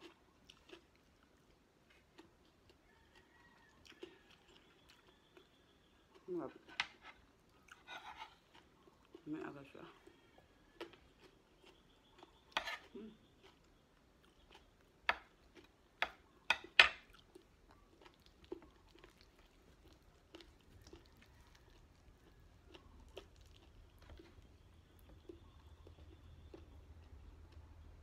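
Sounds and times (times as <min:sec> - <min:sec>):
chewing and wet mouth sounds: 0:00.0 - 0:28.0.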